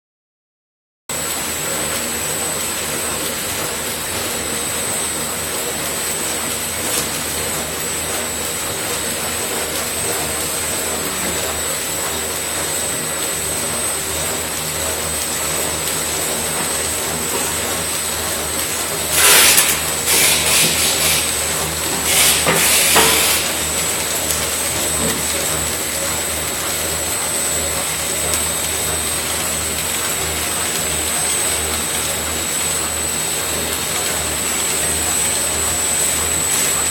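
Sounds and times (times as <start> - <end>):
machine drone with high whine: 1.1 - 36.9.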